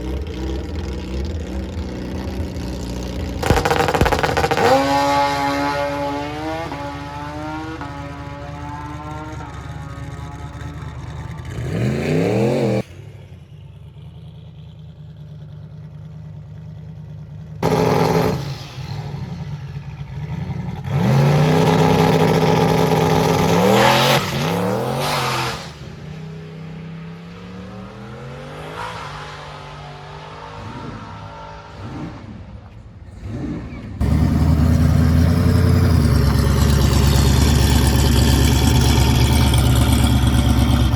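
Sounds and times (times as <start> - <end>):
drag racing engines accelerating: 0.0 - 13.5, 17.6 - 40.9.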